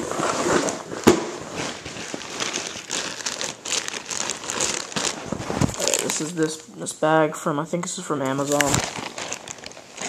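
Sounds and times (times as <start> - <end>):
plastic packaging crinkling: 0.0 - 6.7, 8.3 - 10.0.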